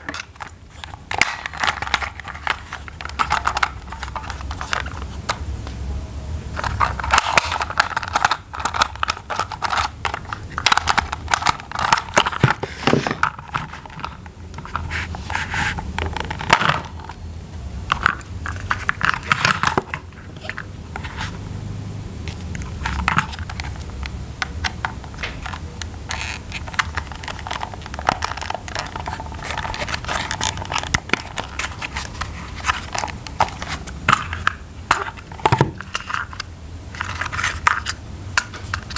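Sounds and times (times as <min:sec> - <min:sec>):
plastic crinkling and scraping: 0:00.0 - 0:05.4, 0:06.5 - 0:17.2, 0:17.8 - 0:21.5, 0:22.2 - 0:38.9.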